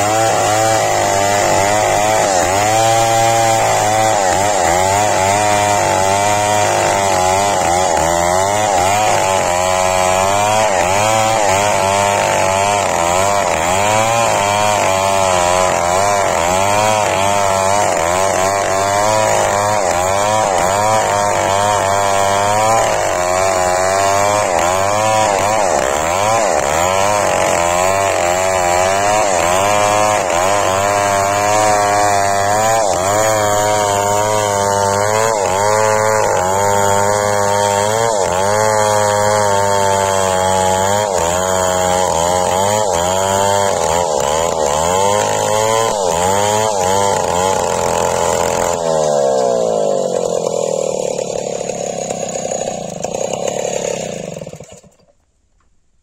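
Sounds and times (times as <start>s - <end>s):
chainsaw cutting log: 0.0s - 55.8s.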